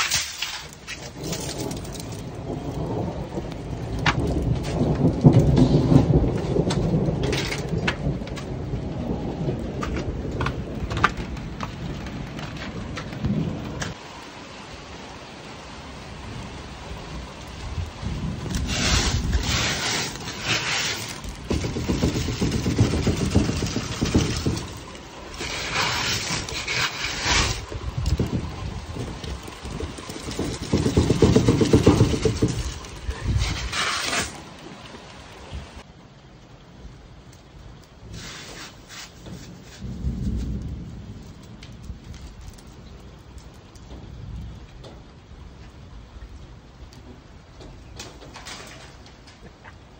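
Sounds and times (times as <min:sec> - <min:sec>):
hailstones rustling when handled: 0:00.0 - 0:14.0, 0:17.2 - 0:35.9, 0:37.3 - 0:45.8
rumble of thunder: 0:00.0 - 0:14.0, 0:16.1 - 0:34.4, 0:39.3 - 0:49.1
rain falling and dripping: 0:00.0 - 0:49.9.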